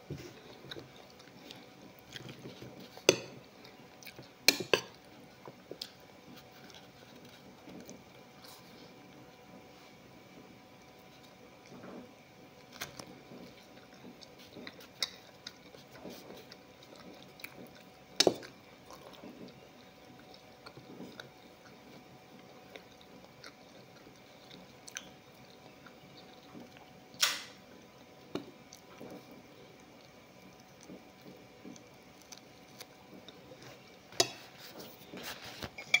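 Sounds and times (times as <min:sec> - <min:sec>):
chewing flatbread: 0:00.0 - 0:36.0
faint steady hum: 0:00.0 - 0:36.0.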